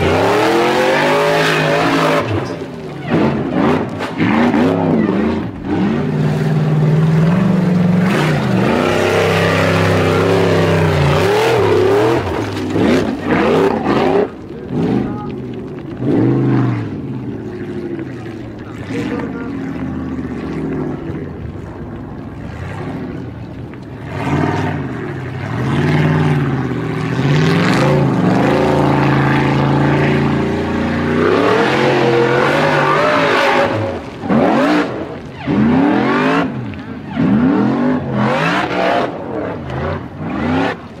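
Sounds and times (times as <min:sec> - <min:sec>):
race engine revving: 0:00.0 - 0:21.7, 0:23.9 - 0:41.0.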